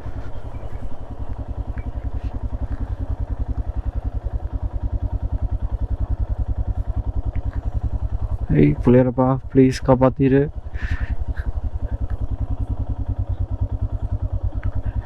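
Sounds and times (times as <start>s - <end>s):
motorcycle engine thumping: 0.0s - 9.7s, 10.5s - 15.0s.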